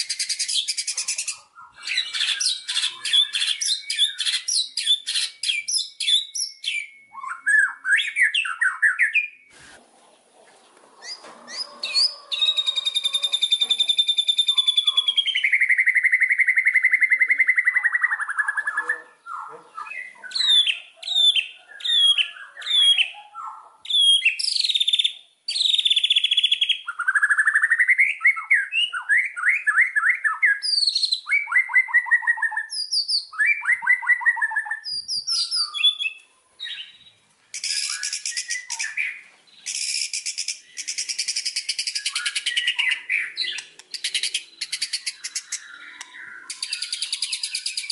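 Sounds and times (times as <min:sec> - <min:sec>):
songbird singing varied phrases: 0:00.0 - 0:47.9.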